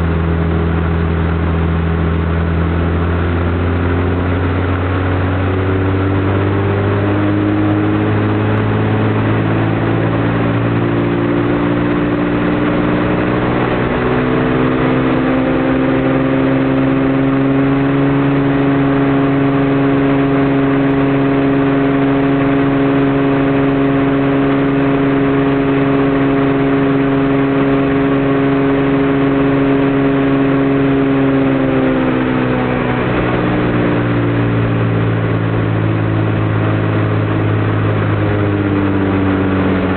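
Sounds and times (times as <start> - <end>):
piston aircraft engine and propeller: 0.0 - 39.9.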